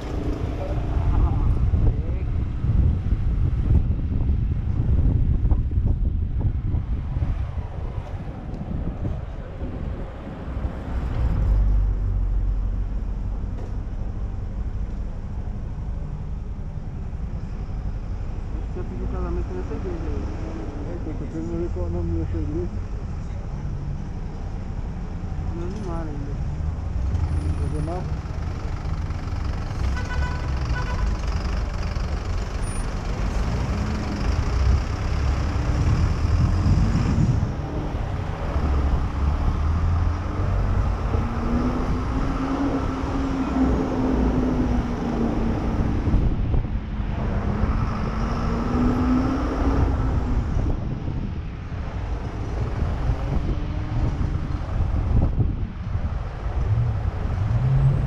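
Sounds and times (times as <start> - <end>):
wind rumble on microphone: 0.0 - 23.2, 32.8 - 58.0.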